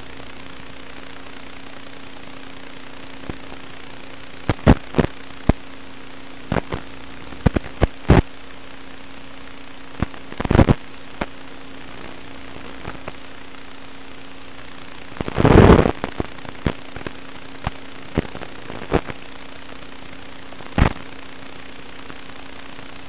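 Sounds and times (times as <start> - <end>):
electrical hum: 0.0 - 23.0
static hiss: 0.0 - 23.0
sharp crackles and pops: 0.1 - 23.0.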